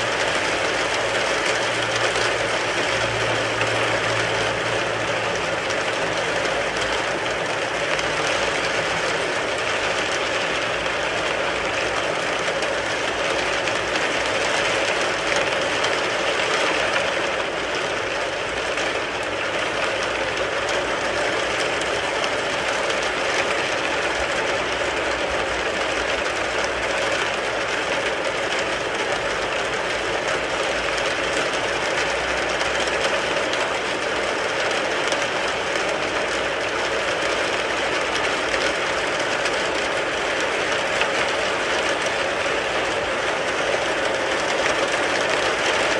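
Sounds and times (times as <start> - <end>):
heavy rain on car roof: 0.0 - 45.9.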